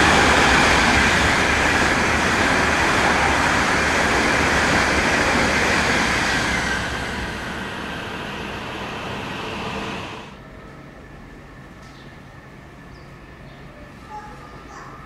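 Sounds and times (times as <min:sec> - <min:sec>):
trains rushing through station: 0:00.0 - 0:15.0.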